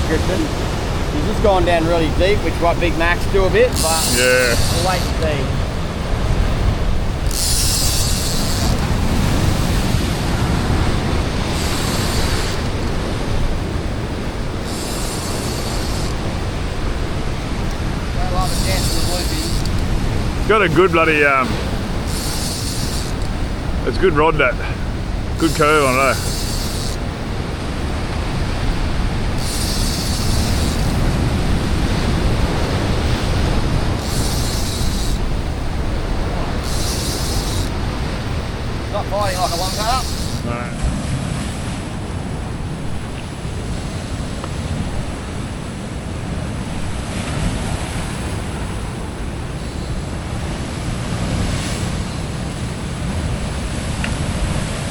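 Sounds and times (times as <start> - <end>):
ocean surf against rock: 0.0 - 54.9
wind rumbling on microphone: 0.0 - 54.9.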